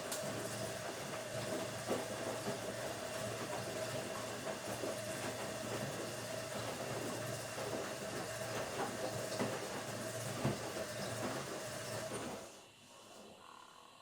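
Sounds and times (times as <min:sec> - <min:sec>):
washing machine running: 0:00.0 - 0:13.3.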